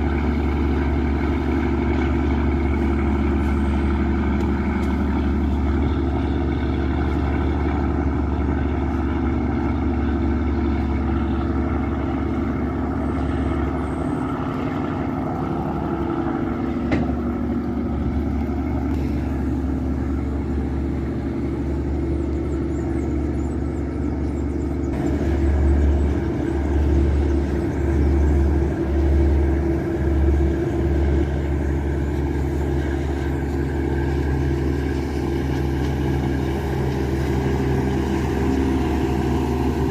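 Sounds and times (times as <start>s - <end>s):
boat diesel engine droning: 0.0s - 39.9s.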